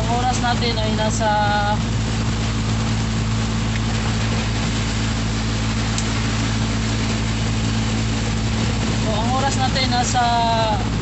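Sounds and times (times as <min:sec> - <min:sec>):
heavy rain: 0:00.0 - 0:11.0
vehicle engine drone: 0:00.0 - 0:11.0.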